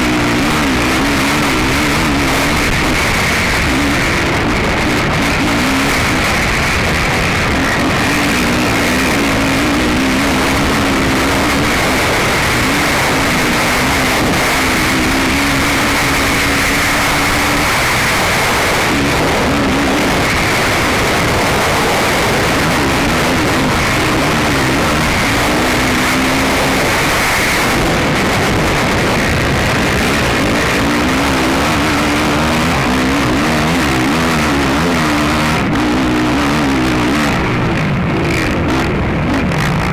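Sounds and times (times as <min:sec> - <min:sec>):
atv engine revving: 0:00.0 - 0:39.9
loud rush of noise: 0:00.0 - 0:39.9.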